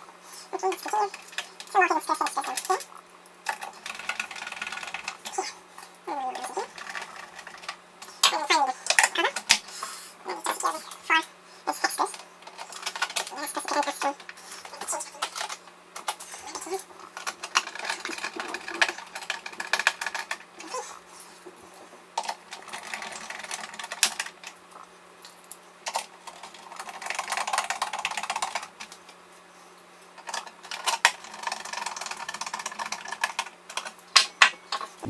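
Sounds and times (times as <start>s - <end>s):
screws and parts rattling: 0.6s - 9.6s, 10.4s - 24.6s, 25.2s - 29.1s, 30.2s - 34.0s.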